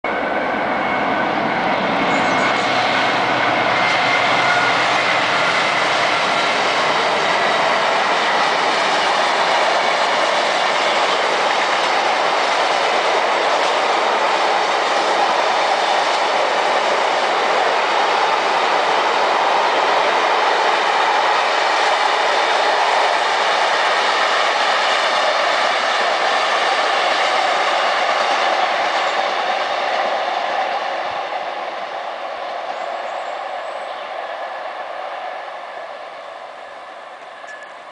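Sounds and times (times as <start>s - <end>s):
train wheels running on rail: 0.1s - 37.9s.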